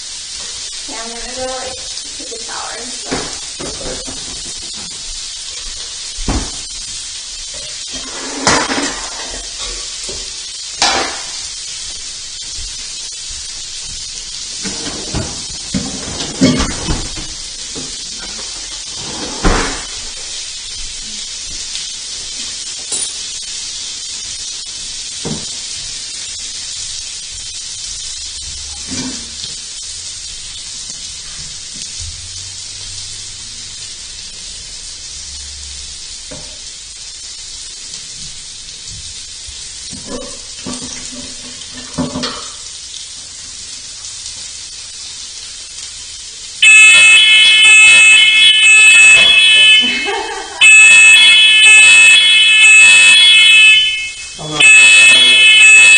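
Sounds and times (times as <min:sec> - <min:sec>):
bacon sizzling in a pan: 0:00.0 - 0:55.9.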